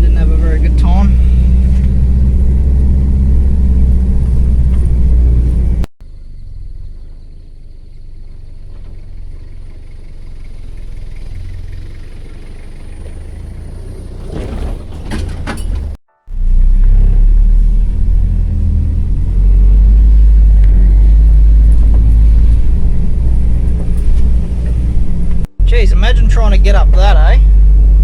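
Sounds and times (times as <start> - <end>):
engine droning inside vehicle cab: 0.0 - 28.0
low vehicle rumble: 0.0 - 28.0.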